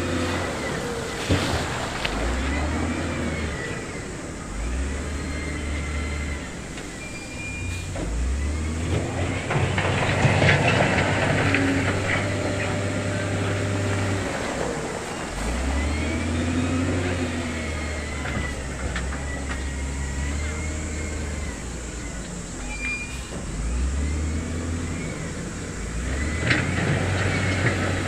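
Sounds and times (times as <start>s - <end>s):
diesel engine of heavy machinery: 0.0s - 28.0s
machinery clatter: 0.0s - 28.0s.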